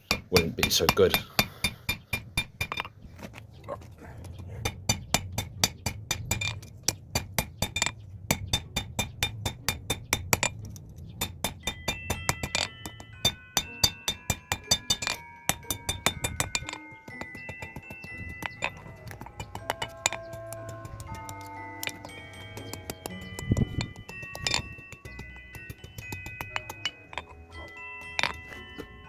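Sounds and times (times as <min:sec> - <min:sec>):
hammer striking iron on anvil: 0:00.0 - 0:02.9, 0:04.6 - 0:10.6, 0:11.2 - 0:28.6
metallic ringing tones: 0:00.0 - 0:03.1, 0:04.6 - 0:29.0.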